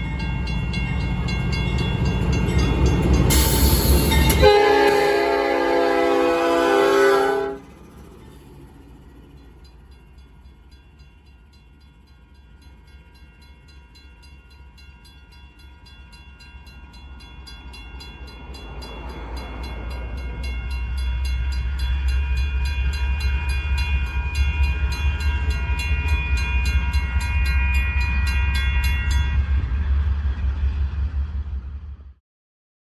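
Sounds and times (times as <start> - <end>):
diesel locomotive rumble: 0.0 - 32.2.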